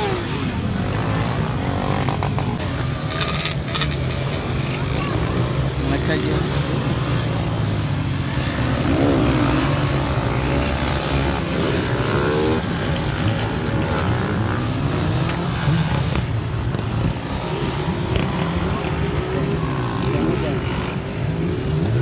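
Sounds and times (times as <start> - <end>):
vehicle engines running: 0.0 - 22.0.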